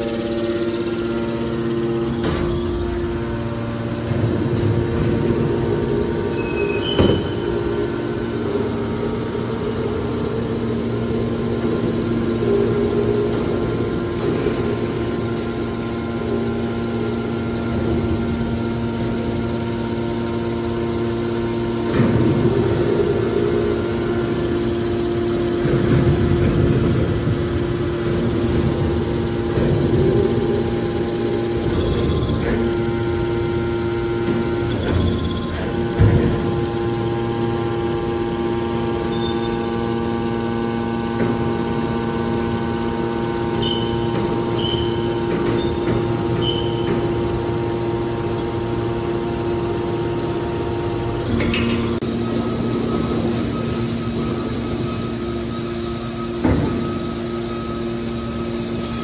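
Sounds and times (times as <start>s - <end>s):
baler machine humming: 0.0s - 59.0s.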